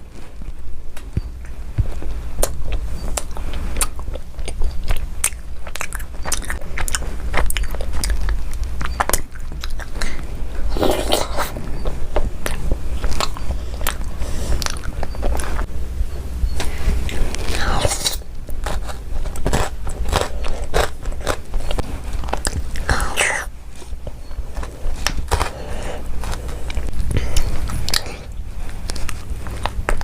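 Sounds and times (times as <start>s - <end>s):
chocolate crunching and chewing: 0.0s - 15.7s, 17.0s - 30.0s.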